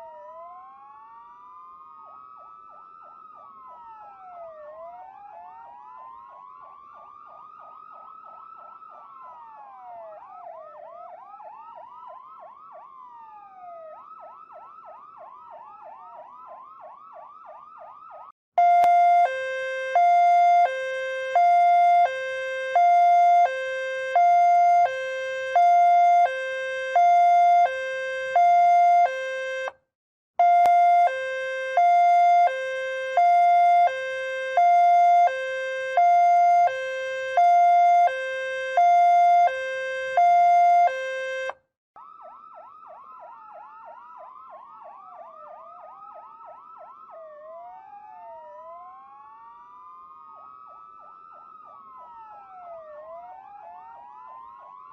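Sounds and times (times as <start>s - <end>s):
siren yelp sweeps: 0.0s - 29.8s, 30.4s - 54.9s
two-tone hi-lo siren: 0.0s - 54.9s
wailing siren: 0.0s - 54.9s.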